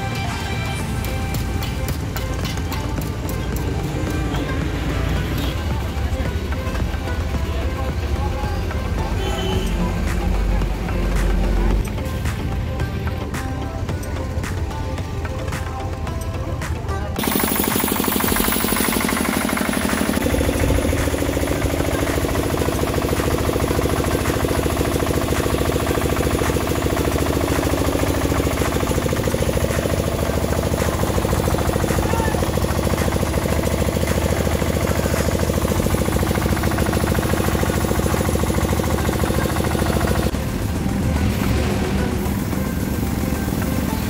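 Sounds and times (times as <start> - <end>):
diesel truck engine idling: 0.7 - 44.0.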